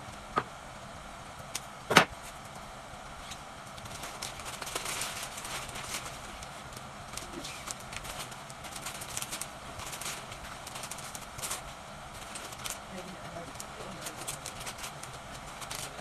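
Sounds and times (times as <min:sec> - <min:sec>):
wrapping paper crinkling: 0:03.1 - 0:16.0.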